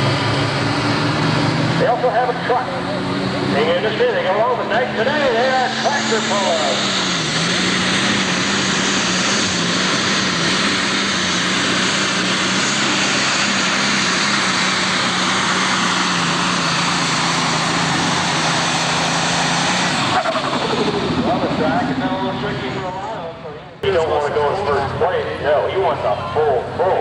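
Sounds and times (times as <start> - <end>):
rushing turbo and exhaust: 0.0 - 27.0
tractor engine at high revs: 0.0 - 27.0.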